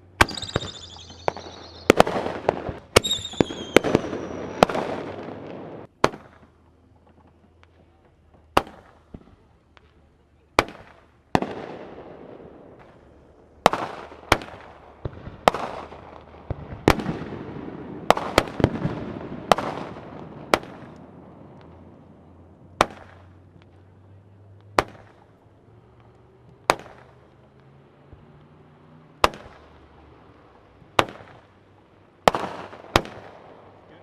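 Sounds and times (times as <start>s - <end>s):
firework bangs: 0.0s - 34.0s
firework crackling: 0.0s - 34.0s.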